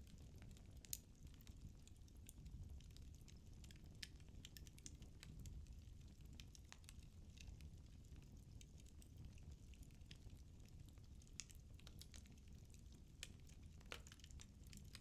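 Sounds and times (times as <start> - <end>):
low rumble of burning logs: 0.0 - 15.0
wood fire crackling: 0.0 - 15.0.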